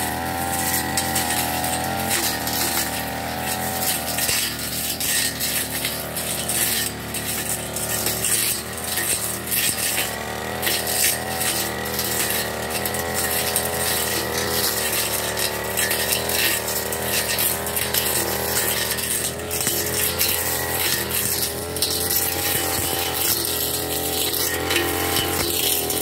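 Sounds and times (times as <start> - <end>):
brush cutter engine cutting grass: 0.0 - 26.0.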